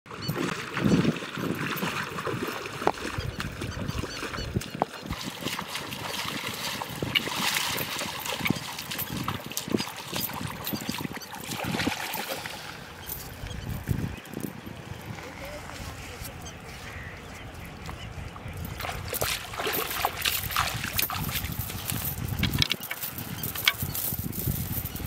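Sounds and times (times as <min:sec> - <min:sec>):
wading through shallow water: 0:00.1 - 0:25.0.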